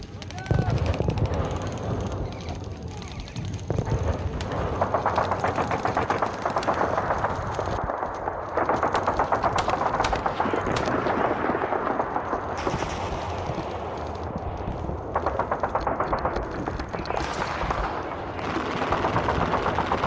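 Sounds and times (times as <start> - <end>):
airsoft guns firing bursts: 0.0 - 14.1, 14.8 - 20.0
sharp cracks: 0.0 - 20.0.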